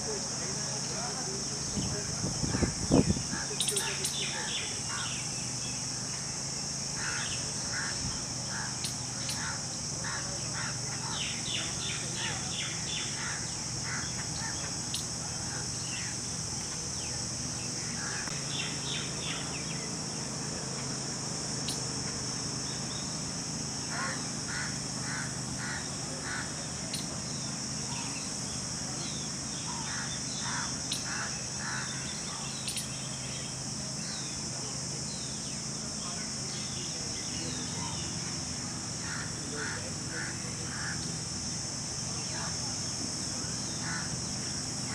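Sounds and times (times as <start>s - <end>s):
birds calling harsh notes: 0.0s - 44.9s
high-pitched insect drone: 0.0s - 44.9s.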